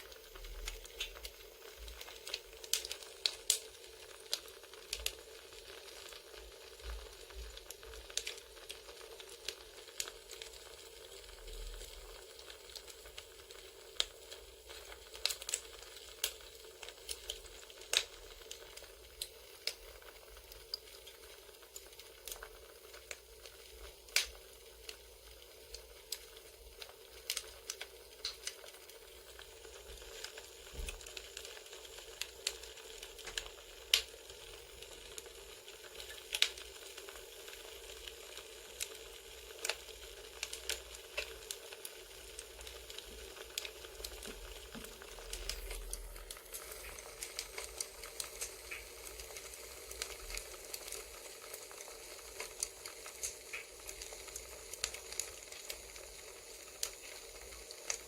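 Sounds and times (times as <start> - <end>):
campfire hissing: 0.0 - 58.0
fire popping and snapping: 0.0 - 58.0.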